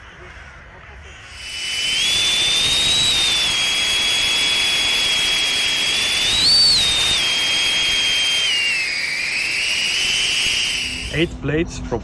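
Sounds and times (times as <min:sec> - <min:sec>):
drone propellers whining: 0:01.3 - 0:11.4.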